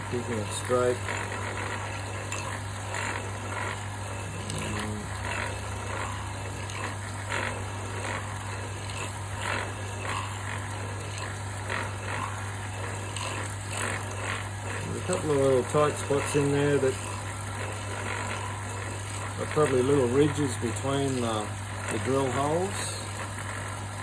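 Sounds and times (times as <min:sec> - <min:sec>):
cutter scraping wood: 0:00.0 - 0:23.3
wood lathe humming: 0:00.0 - 0:24.0.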